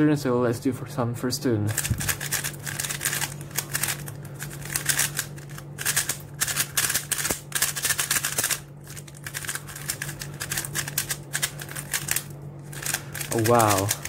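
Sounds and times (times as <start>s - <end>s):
steady low hum: 0.0s - 14.0s
puzzle cube plastic clicking: 1.7s - 14.0s.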